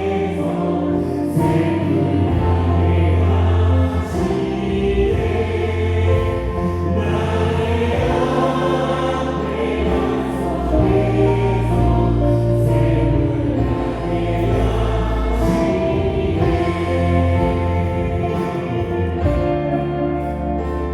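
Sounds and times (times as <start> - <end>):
group singing a praise song: 0.0 - 20.7
live band playing: 0.0 - 20.9.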